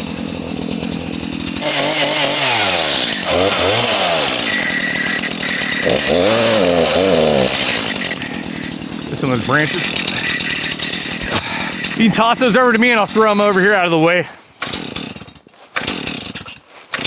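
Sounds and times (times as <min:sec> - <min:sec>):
chainsaw cutting a tree: 0:00.0 - 0:17.0.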